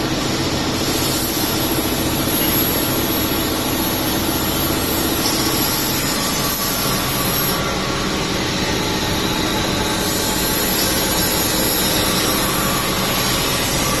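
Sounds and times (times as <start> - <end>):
laser cutting machine running: 0.0 - 14.0.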